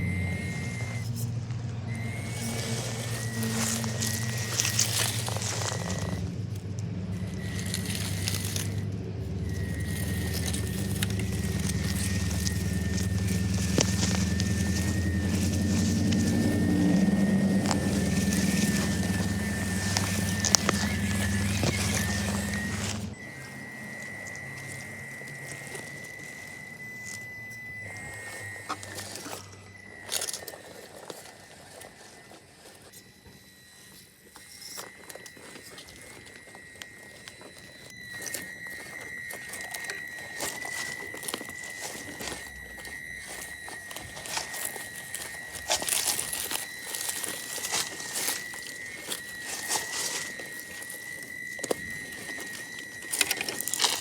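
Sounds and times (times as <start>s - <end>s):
rc car electric motor whine: 0.0s - 54.0s
tyres crunching on dirt: 0.0s - 54.0s.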